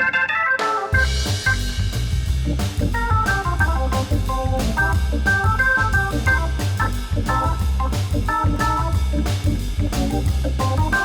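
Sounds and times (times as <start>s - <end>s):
organ music with bass and beat: 0.0s - 11.0s.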